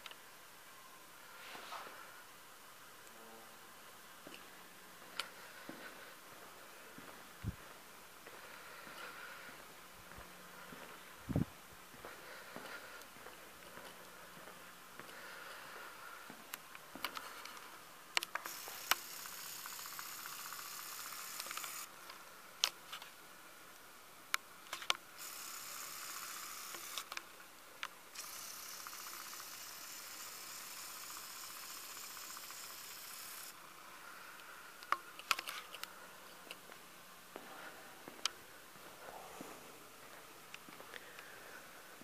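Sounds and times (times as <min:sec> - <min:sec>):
faint hiss: 0:00.0 - 0:42.0.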